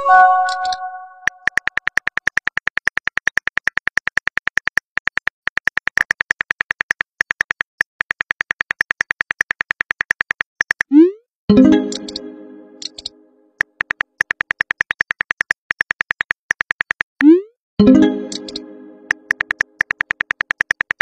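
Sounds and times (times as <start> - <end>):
phone keyboard clicks: 0.4 - 10.9, 12.8 - 17.1, 18.3 - 21.0.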